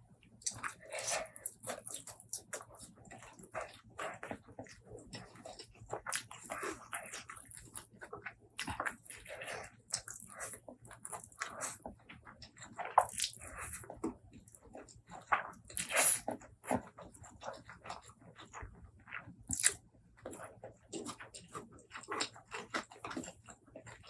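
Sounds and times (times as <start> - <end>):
wet chewing and lip-smacking: 0.4 - 24.0.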